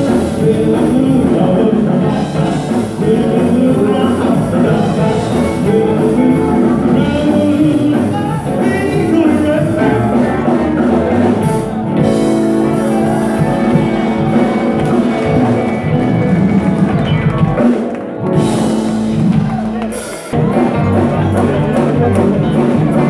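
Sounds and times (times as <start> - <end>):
drum kit dance beat: 0.0 - 23.0
electric guitars: 0.0 - 23.0
keyboard: 0.0 - 23.0.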